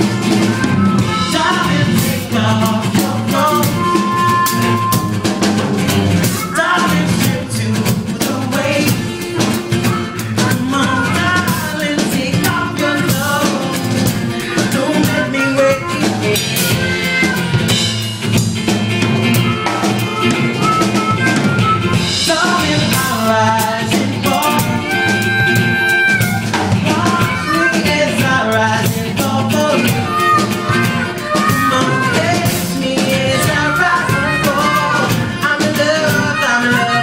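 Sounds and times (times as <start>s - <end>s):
drum kit: 0.0s - 37.0s
live band playing: 0.0s - 37.0s.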